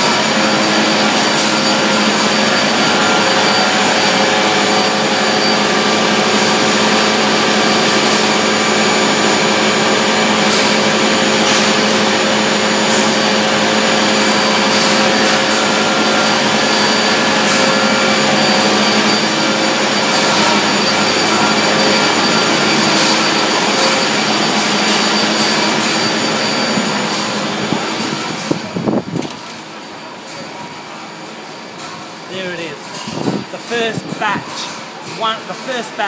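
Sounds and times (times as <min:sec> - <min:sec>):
machinery hum and whine: 0:00.0 - 0:36.0.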